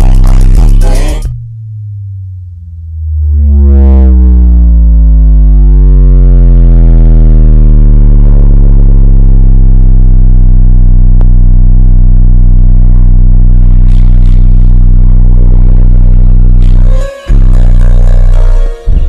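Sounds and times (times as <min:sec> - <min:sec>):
deep synth bass note: 0:00.0 - 0:19.0.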